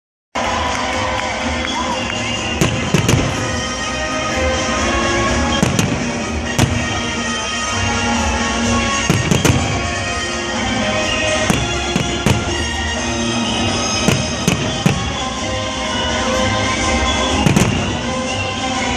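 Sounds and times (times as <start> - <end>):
music playing: 0.4 - 18.9
fireworks bursting with bangs: 2.1 - 18.9.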